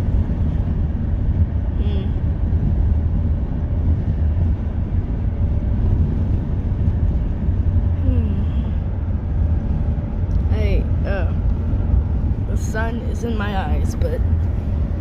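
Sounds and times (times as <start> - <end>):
car engine noise: 0.0 - 15.0
road rumble: 0.0 - 15.0.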